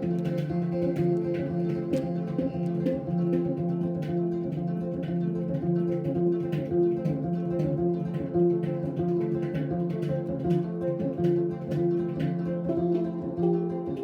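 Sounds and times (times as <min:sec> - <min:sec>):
plucked string zither: 0:00.0 - 0:14.0.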